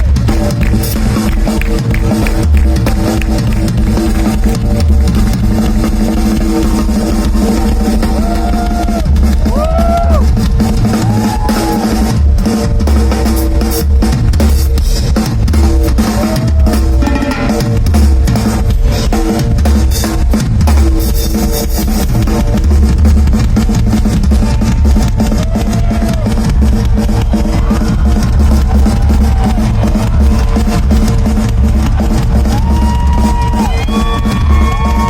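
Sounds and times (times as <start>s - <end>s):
pounding bass drum: 0.0s - 35.0s
rock drum solo: 0.0s - 35.0s.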